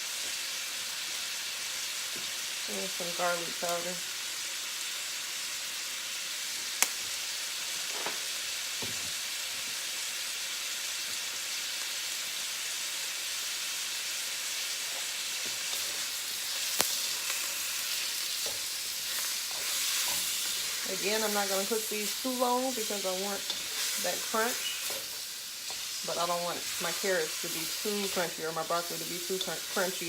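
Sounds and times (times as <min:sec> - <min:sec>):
vegetables sizzling in a wok: 0:00.0 - 0:30.0.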